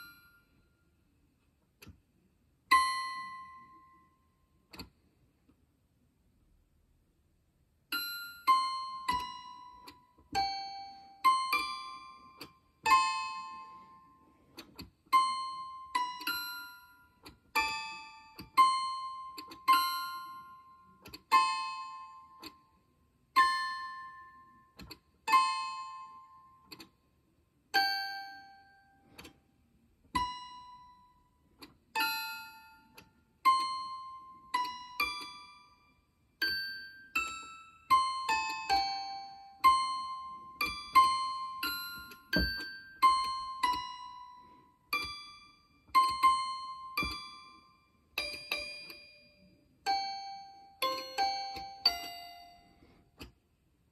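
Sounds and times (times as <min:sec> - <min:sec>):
toy piano notes: 0:00.0 - 0:00.6, 0:02.6 - 0:05.0, 0:07.9 - 0:53.9.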